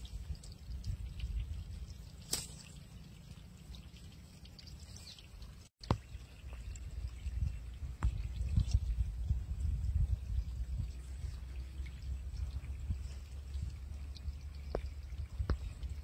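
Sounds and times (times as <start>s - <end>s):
water trickling and dripping: 0.0s - 16.0s.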